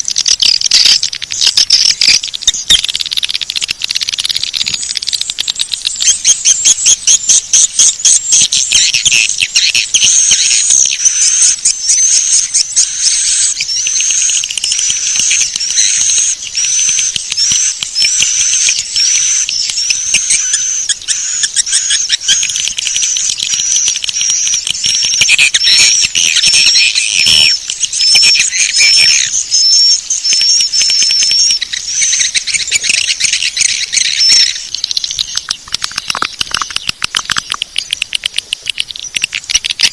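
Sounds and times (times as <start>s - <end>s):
swiftlets twittering: 0.0s - 39.9s.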